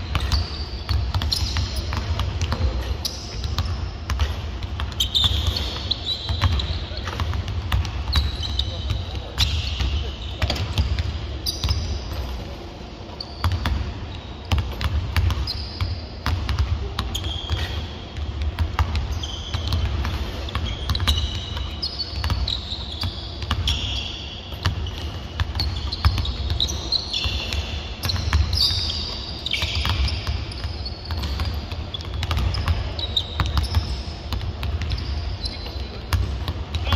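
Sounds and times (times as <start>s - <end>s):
basketballs bouncing on hardwood: 0.0s - 12.3s, 14.5s - 23.8s, 24.6s - 36.9s
sneaker squeaks: 0.0s - 36.9s.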